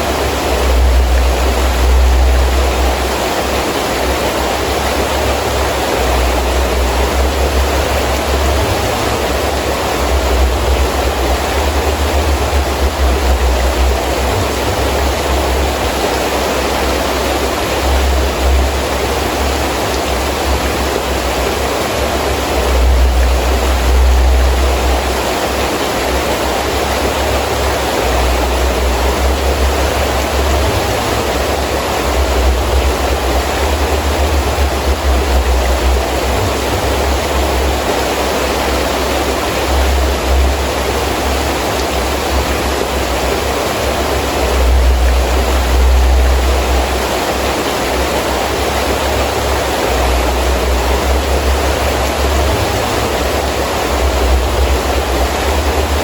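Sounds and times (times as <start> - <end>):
heavy rain falling: 0.0 - 56.0
wind gusts rumbling: 0.0 - 56.0.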